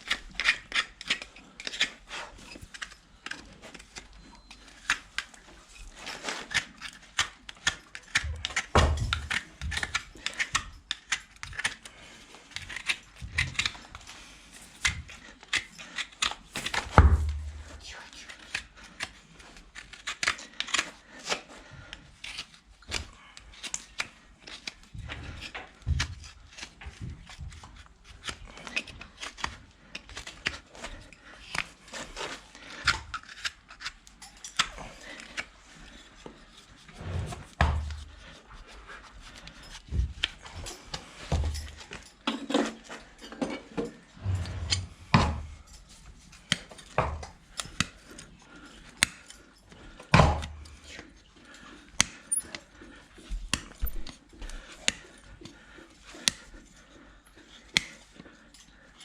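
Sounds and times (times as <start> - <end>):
tools scraping horse hoof: 0.0 - 17.8, 22.2 - 59.0.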